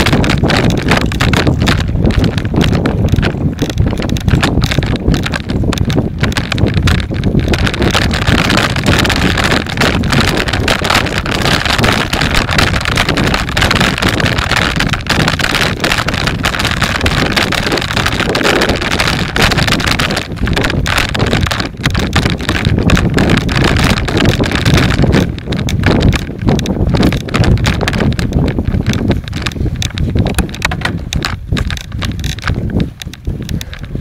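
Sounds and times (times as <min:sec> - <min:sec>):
knocks and rattles from bumps: 0:00.0 - 0:34.0
wind buffeting microphone: 0:00.0 - 0:34.0.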